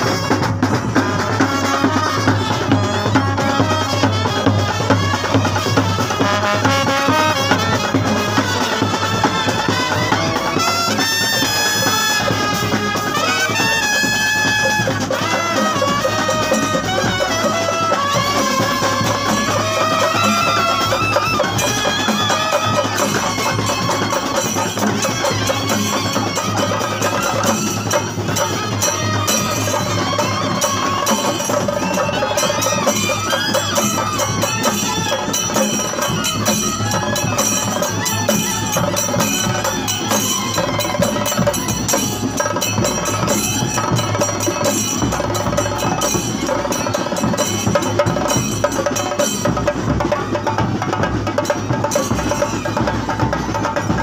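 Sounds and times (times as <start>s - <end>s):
clarinets and trumpets playing: 0.0s - 54.0s
drums beaten with sticks: 0.0s - 54.0s.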